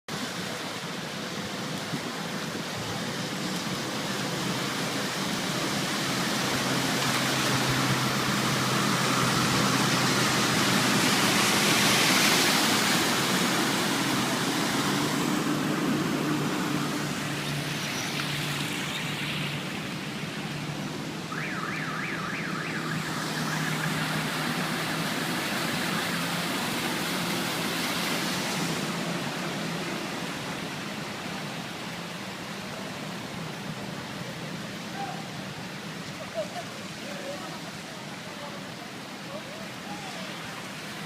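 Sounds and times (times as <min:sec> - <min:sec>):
flooded street noise: 0:00.1 - 0:41.0.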